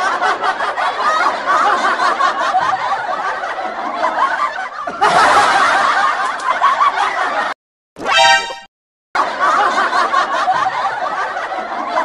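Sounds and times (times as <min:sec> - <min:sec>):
people laughing and snickering: 0:00.0 - 0:07.5, 0:09.2 - 0:12.0.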